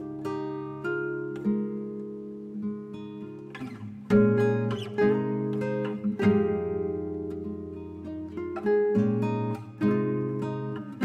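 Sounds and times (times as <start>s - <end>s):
acoustic guitar instrumental: 0.0s - 11.0s.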